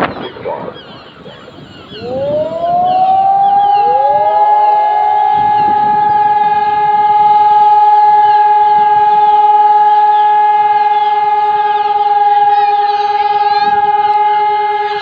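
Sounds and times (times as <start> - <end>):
flood siren steady tone: 0.0 - 15.0.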